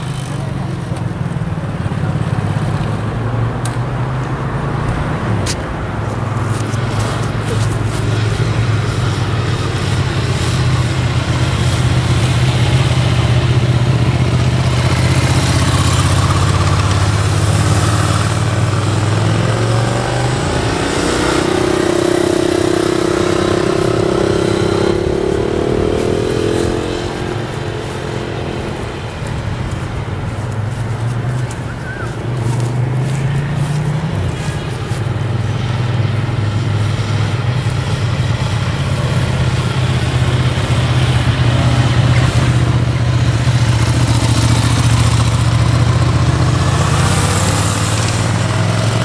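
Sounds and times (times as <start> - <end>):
higher engine note: 0.0 - 49.0
motorcycle engines droning: 0.0 - 49.0.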